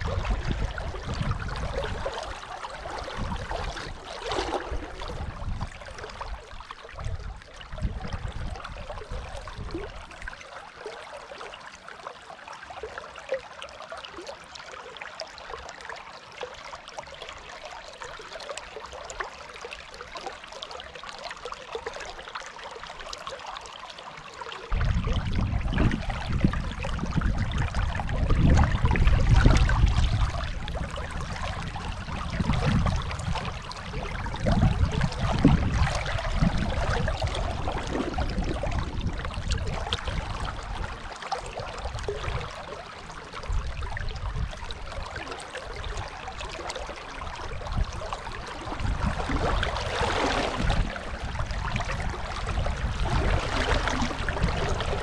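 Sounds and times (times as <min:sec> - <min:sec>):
rushing river water: 0:00.0 - 0:55.0.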